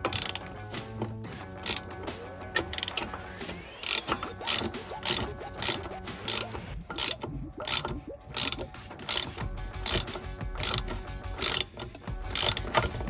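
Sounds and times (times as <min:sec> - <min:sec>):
ratchet spanner clicking: 0:00.0 - 0:13.0.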